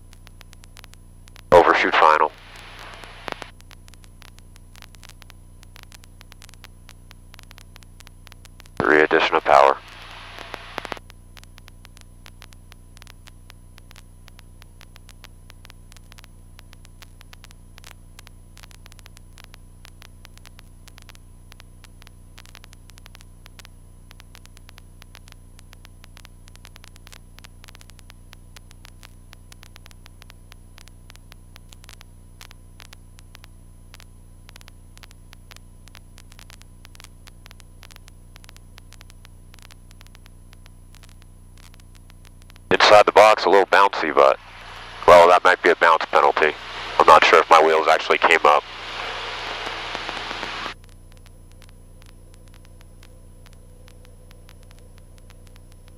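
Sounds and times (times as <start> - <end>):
electrical hum with high tone: 0.0 - 55.9
static crackling clicks: 0.0 - 55.9.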